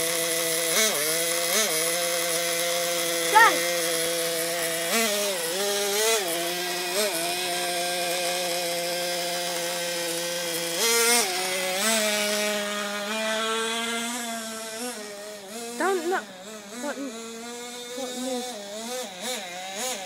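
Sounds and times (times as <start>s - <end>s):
model car engine idling and revving: 0.0s - 20.0s.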